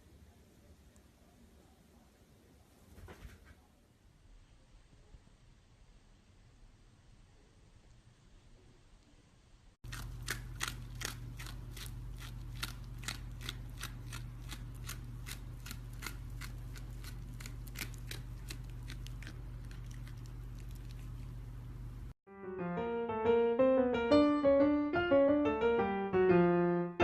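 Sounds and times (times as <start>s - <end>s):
low electrical hum: 0.0s - 22.2s.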